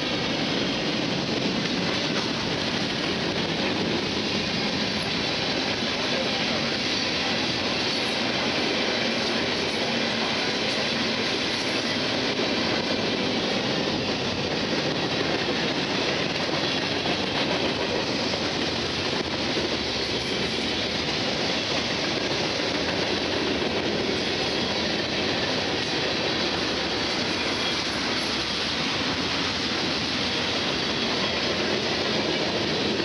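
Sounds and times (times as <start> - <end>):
freight train wheels on rails: 0.0 - 33.0.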